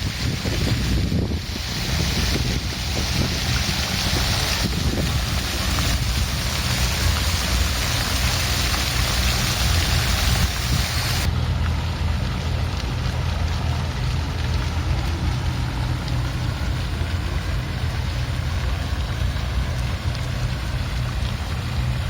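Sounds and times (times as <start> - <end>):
fountain water splashing: 0.0 - 22.0
low rumble: 0.0 - 22.0.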